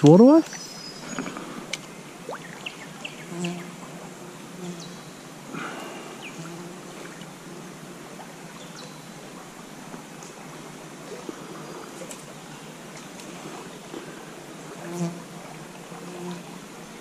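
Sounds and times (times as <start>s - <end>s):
shallow stream flowing: 0.0s - 17.0s.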